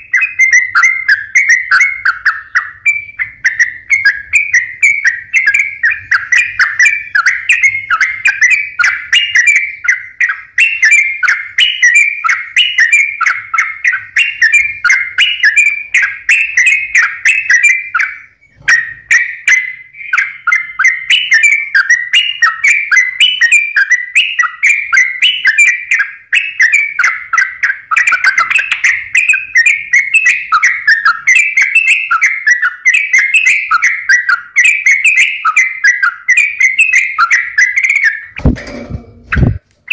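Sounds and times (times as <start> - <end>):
bird singing bubbly chirps: 0.0 - 38.4.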